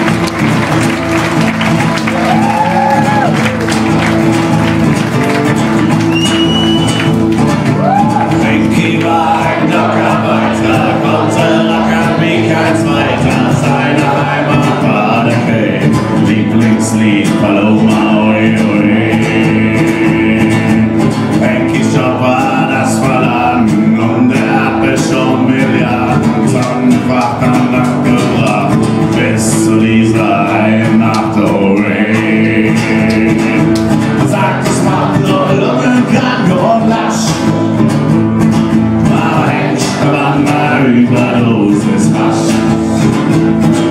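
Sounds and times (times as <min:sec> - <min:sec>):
acoustic guitar playing: 0:00.0 - 0:43.9
man singing: 0:07.8 - 0:43.9.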